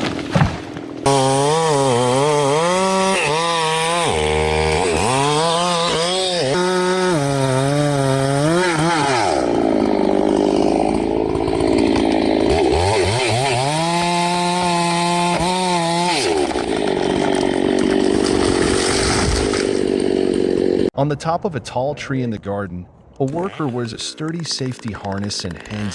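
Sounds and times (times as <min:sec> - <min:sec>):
chainsaw cutting wood: 0:00.0 - 0:20.9, 0:23.3 - 0:25.9.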